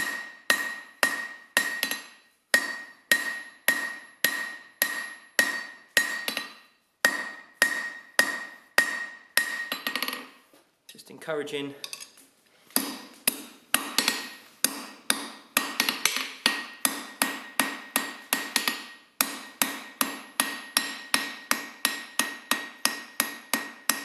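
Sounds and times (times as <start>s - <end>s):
hammer striking steel on anvil: 0.0s - 10.3s, 12.8s - 24.0s.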